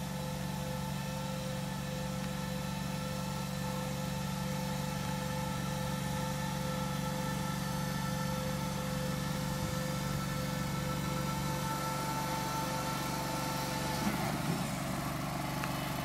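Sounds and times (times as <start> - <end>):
mower engine humming: 0.0 - 16.0.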